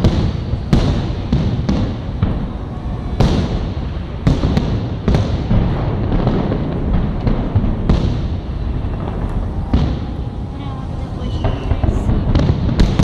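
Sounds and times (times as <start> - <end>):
fireworks bangs with echo: 0.0 - 13.0
low rumble: 0.0 - 13.0.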